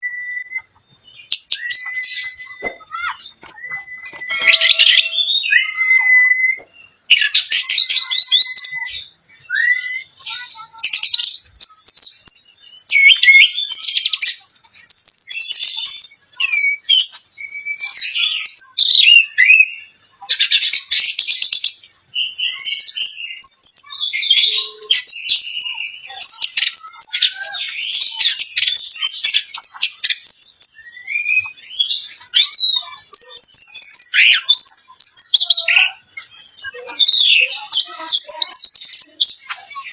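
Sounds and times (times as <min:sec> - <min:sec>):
thrush singing varied trills: 0:00.0 - 0:39.9.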